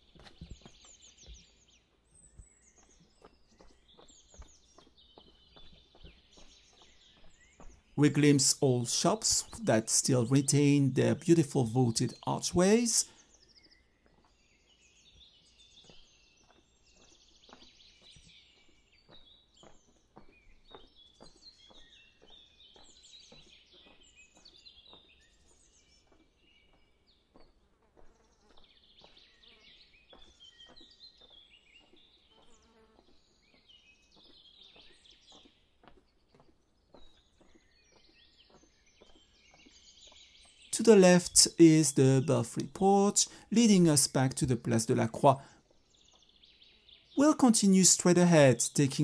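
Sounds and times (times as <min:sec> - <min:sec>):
footsteps on stone paving: 0:00.0 - 0:46.5
small birds chirping: 0:00.0 - 0:49.0.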